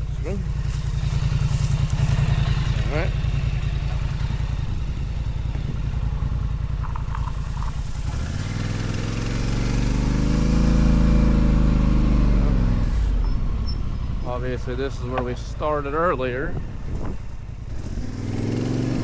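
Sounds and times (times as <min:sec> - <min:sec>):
atv engine revving: 0:00.0 - 0:13.2, 0:16.9 - 0:19.0.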